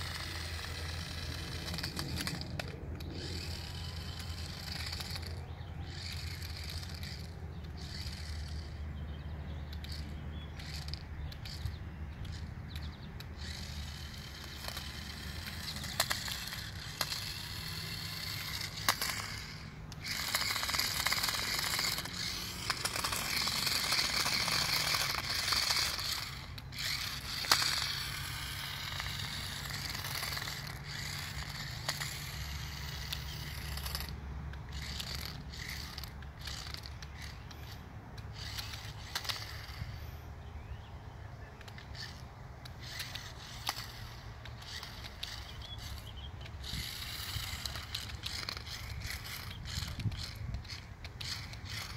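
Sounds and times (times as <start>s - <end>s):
toy car motors whirring: 0.0s - 51.9s.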